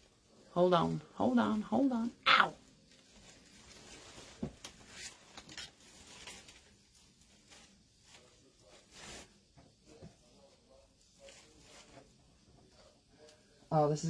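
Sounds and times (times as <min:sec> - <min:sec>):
ribbon and fabric rustling: 0:00.8 - 0:13.6.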